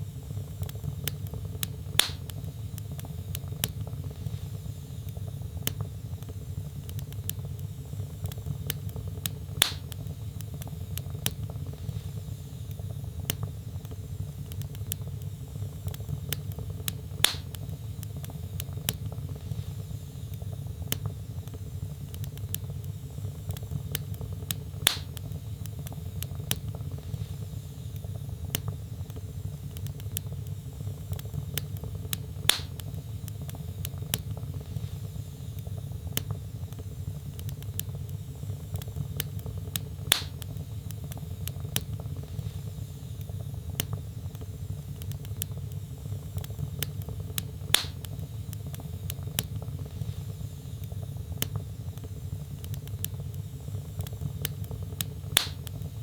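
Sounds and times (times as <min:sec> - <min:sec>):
fire rumbling and crackling: 0:00.1 - 0:56.0
burning logs popping: 0:00.2 - 0:56.0.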